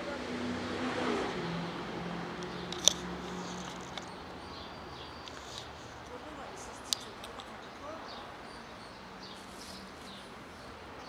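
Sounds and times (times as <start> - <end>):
motor vehicle passing: 0.0 - 10.7.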